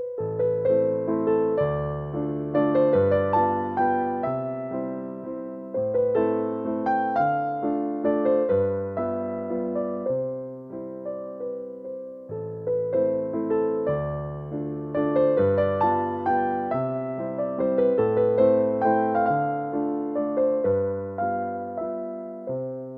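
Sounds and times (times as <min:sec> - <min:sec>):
electric piano chords and melody: 0:00.0 - 0:22.9.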